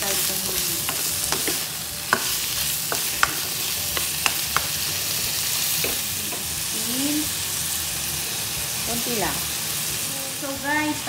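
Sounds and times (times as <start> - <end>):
shrimp sizzling in a pan: 0.0 - 11.0.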